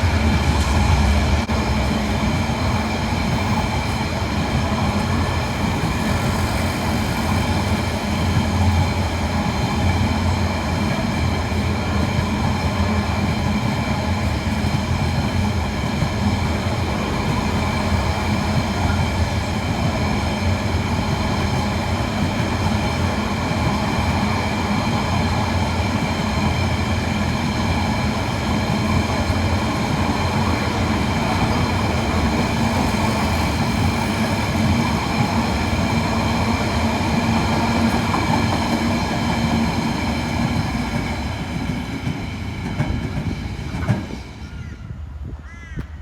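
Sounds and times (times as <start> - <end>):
train rumbling past: 0.0 - 45.5.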